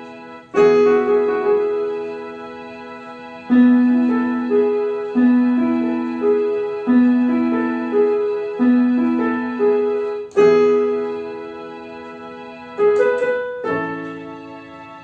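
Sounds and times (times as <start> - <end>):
electronic piano melody: 0.0 - 15.0.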